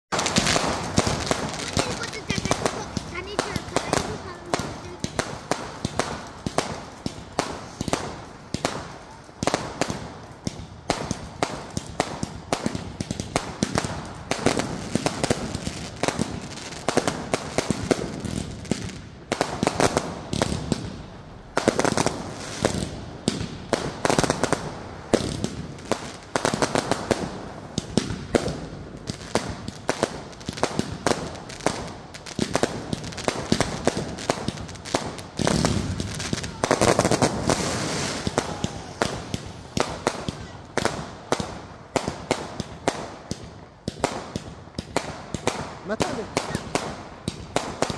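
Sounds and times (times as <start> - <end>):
fireworks bangs and crackles: 0.1 - 47.9.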